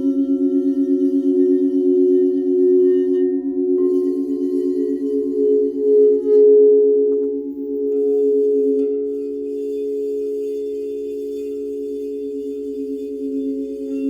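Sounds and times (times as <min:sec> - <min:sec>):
crystal singing bowls ringing: 0:00.0 - 0:14.0.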